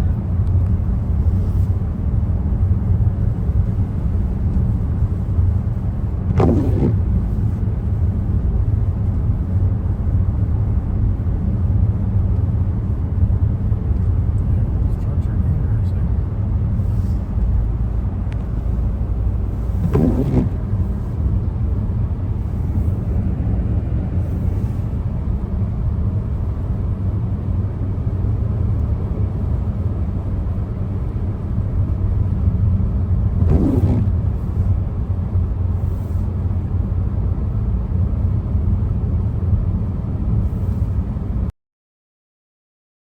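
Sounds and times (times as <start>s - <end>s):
car road and engine rumble: 0.0s - 41.5s.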